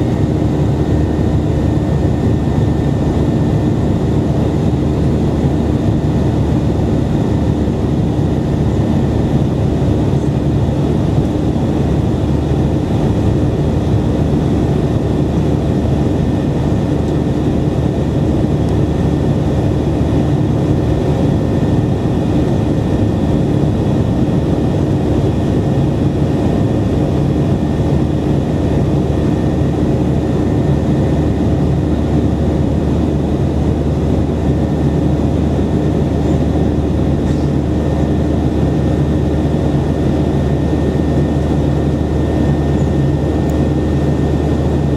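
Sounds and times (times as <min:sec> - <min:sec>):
jet engines droning: 0:00.0 - 0:44.9.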